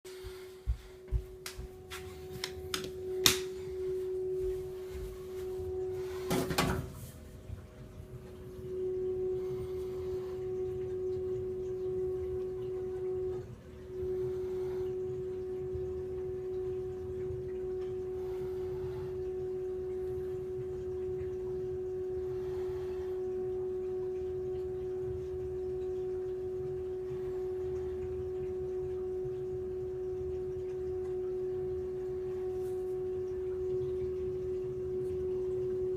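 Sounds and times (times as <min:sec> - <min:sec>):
heat pump humming: 0:00.1 - 0:35.9.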